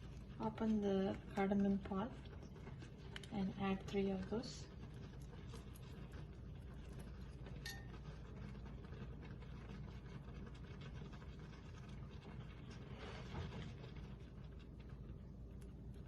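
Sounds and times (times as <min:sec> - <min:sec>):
spices crackling in frying fat: 0:00.0 - 0:16.0.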